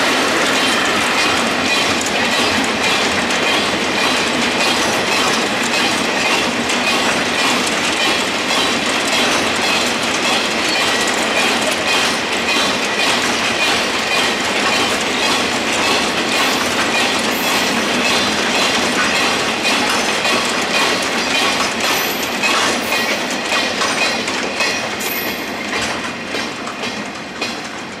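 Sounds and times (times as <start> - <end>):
freight wagons clickety-clack: 0.4 - 28.0.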